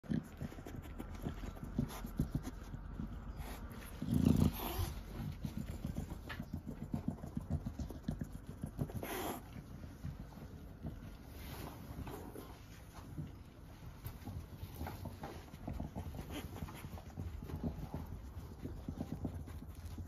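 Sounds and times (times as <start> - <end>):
dog panting and sniffing: 0.0 - 20.0.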